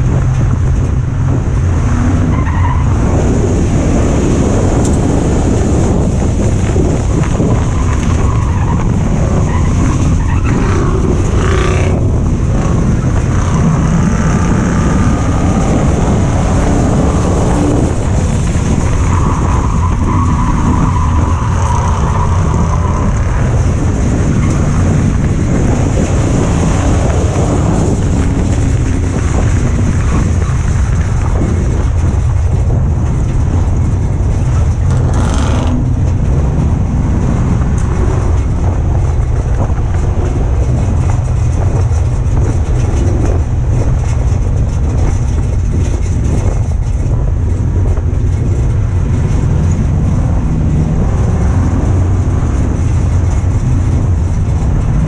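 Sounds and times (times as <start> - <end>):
race car engine running hard: 0.0 - 55.0
wind and tyre noise: 0.0 - 55.0.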